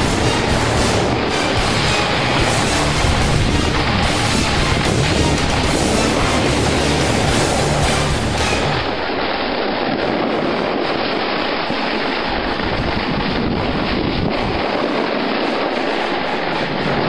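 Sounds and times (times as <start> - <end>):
snowboard sliding over snow: 0.0 - 17.0
wind on microphone: 0.0 - 17.0.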